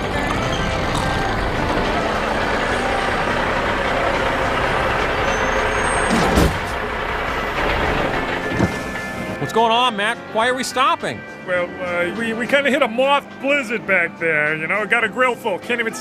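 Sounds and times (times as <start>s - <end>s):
truck engine and road noise: 0.0s - 16.0s.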